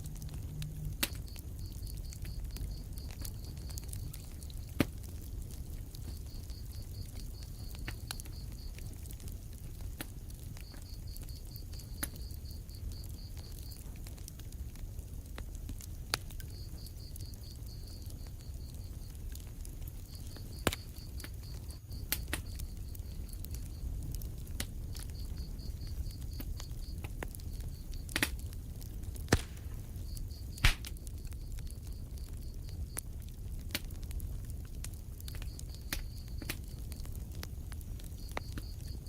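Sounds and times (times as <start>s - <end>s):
fire crackling and popping: 0.0s - 39.0s
fire rumbling: 0.0s - 39.0s.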